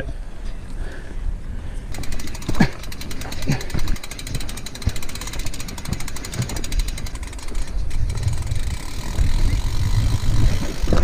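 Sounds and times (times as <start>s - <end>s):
tyres and wind rumble: 0.0s - 11.0s
bike freehub ticking: 1.8s - 11.0s
bike rattling: 1.8s - 11.0s.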